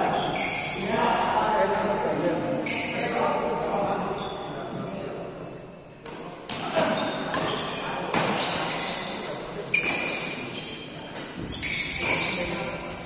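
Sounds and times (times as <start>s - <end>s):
players' voices: 0.0s - 13.0s.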